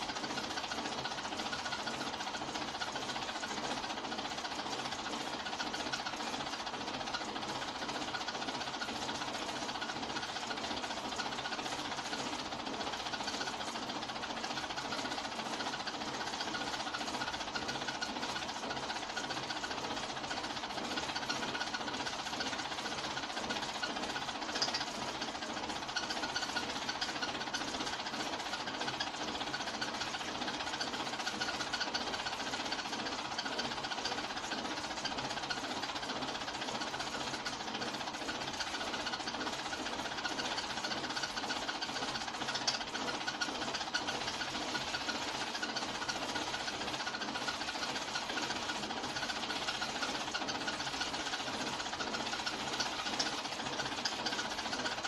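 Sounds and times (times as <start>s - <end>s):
film projector mechanism rattling: 0.0s - 55.0s.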